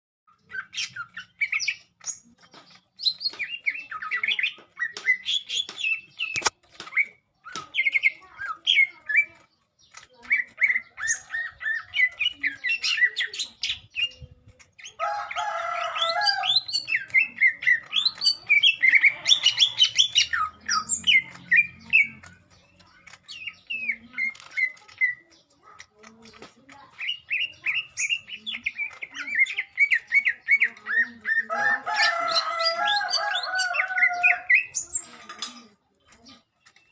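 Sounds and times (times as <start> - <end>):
bird chattering song: 0.3 - 36.9.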